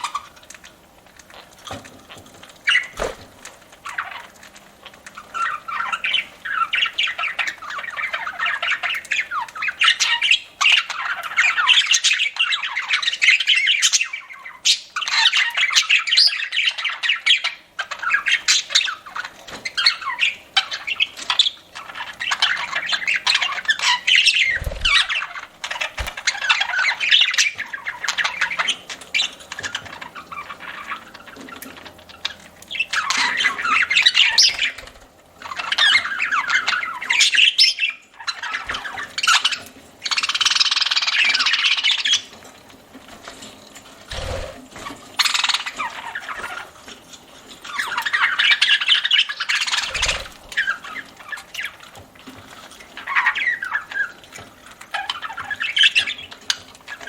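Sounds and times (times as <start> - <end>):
budgerigars chattering and squawking: 5.2 - 42.4, 44.0 - 46.8, 47.6 - 52.0, 52.9 - 57.0.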